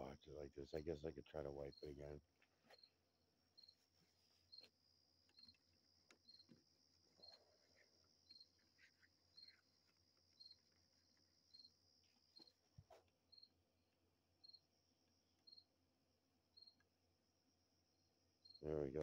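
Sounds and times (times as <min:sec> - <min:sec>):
crickets chirping: 0:00.0 - 0:19.0
high-pitched insect trill: 0:00.1 - 0:13.5, 0:14.4 - 0:15.8, 0:16.5 - 0:19.0.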